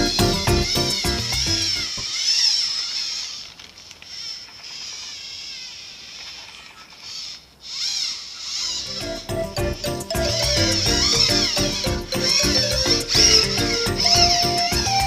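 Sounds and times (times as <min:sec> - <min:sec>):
toy robot electronic chatter: 0:00.0 - 0:15.0.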